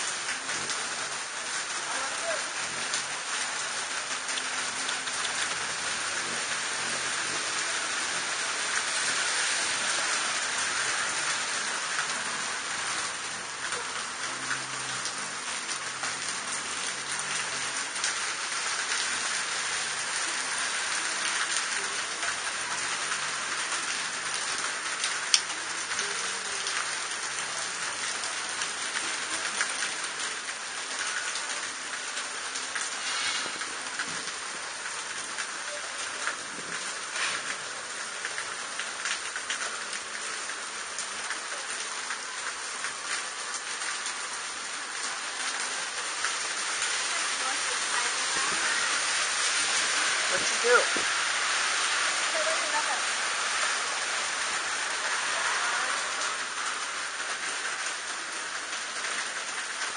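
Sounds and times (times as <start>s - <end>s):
heavy rain on pavement: 0.0s - 59.9s.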